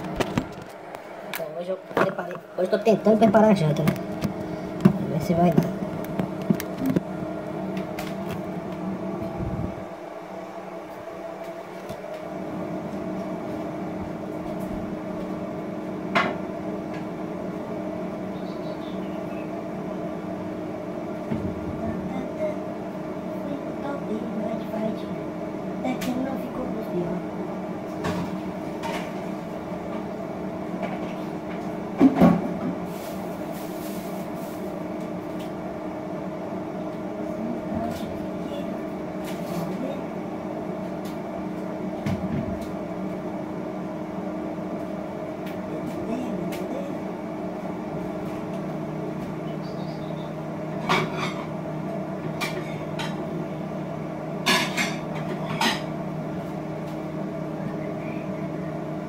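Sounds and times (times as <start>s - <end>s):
appliance electrical hum: 0.0s - 59.0s.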